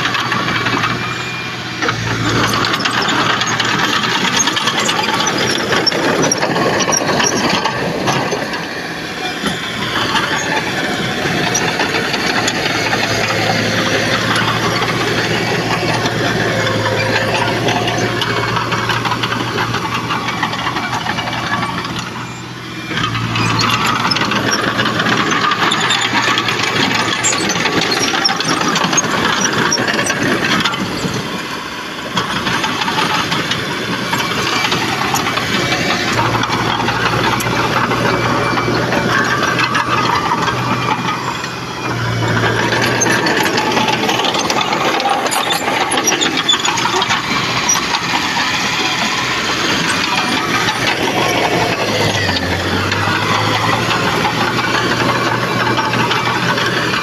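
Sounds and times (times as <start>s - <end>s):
heavy diesel engine clattering: 0.0s - 57.0s.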